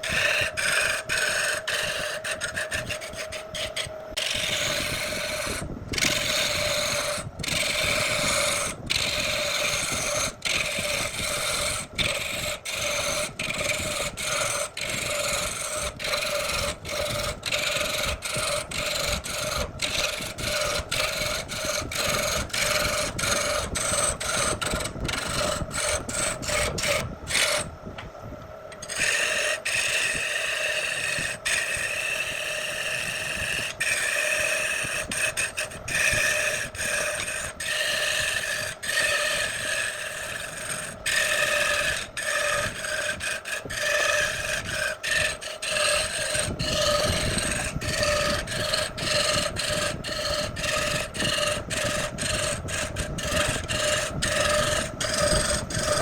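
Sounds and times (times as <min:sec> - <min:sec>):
turning tool scraping wood: 0:00.0 - 0:28.1, 0:28.7 - 0:56.0
wood lathe whine: 0:00.0 - 0:56.0.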